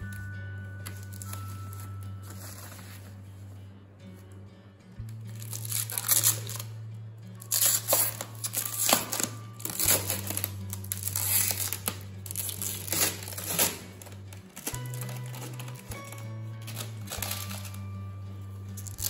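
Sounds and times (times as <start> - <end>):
packaging crinkling and rustling: 0.0 - 3.2, 5.3 - 6.8, 7.4 - 18.0, 18.8 - 19.0.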